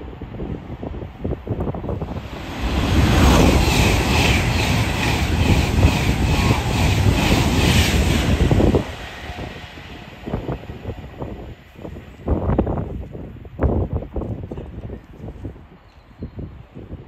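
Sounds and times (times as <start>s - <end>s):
train passing at speed: 0.0s - 14.4s.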